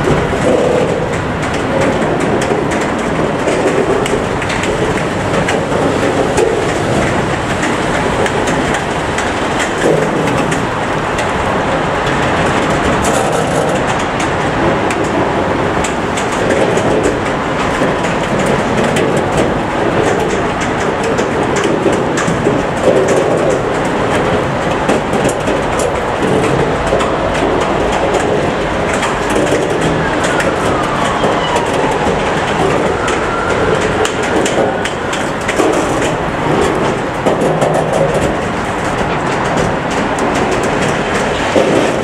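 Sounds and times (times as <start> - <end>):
train wheels rumbling on rail: 0.0 - 42.0
wheels clacking over rail joints: 0.0 - 42.0.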